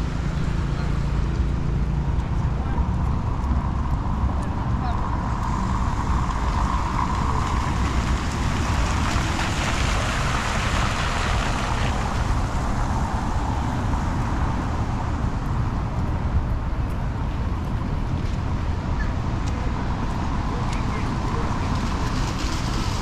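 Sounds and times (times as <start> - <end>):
traffic rumble: 0.0 - 23.0
vehicle passing on wet road: 0.0 - 23.0.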